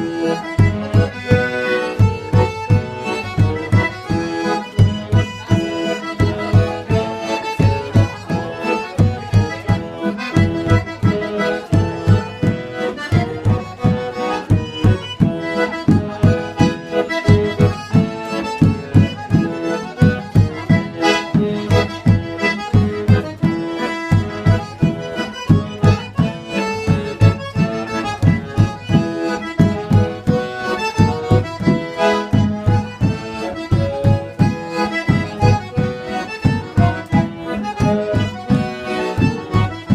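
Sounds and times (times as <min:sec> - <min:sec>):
accordion folk music: 0:00.0 - 0:39.9.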